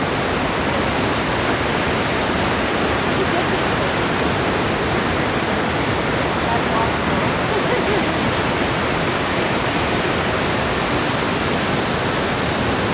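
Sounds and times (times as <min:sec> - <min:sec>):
stream tumbling over rocks: 0:00.0 - 0:12.9
waterfall roaring: 0:00.0 - 0:12.9.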